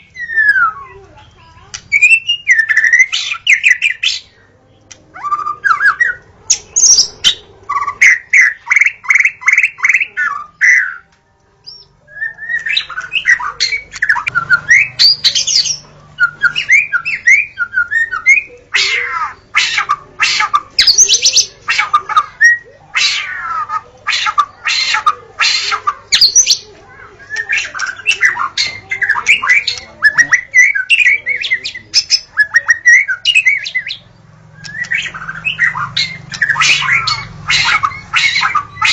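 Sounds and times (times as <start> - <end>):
songbird singing varied song: 0.0 - 22.8, 23.4 - 38.9.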